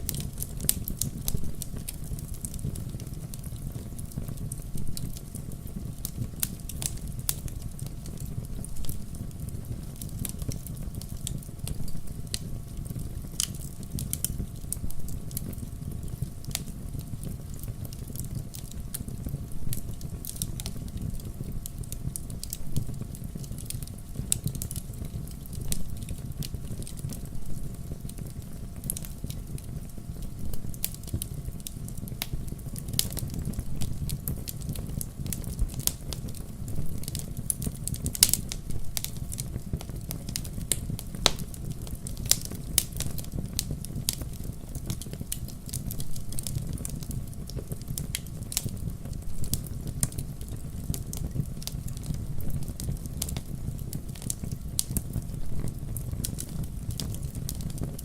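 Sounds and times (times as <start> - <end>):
sharp pops of fire: 0.0 - 58.0
wood fire crackling: 0.0 - 58.0.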